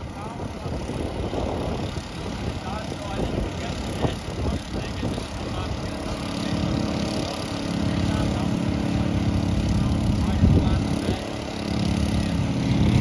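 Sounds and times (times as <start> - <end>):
snow-clearing machine engine humming: 0.0 - 13.0.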